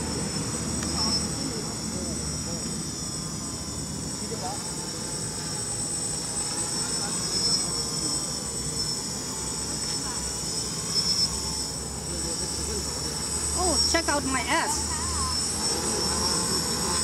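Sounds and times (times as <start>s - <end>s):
high steady whine: 0.0s - 17.0s
quadcopter motors buzzing: 0.0s - 17.0s.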